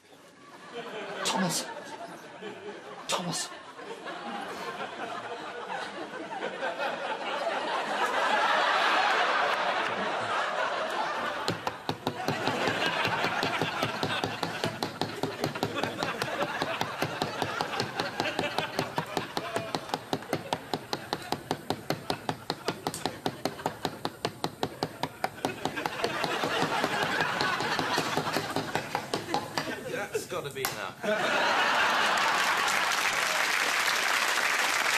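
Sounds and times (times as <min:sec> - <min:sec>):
people laughing: 0:00.1 - 0:33.5.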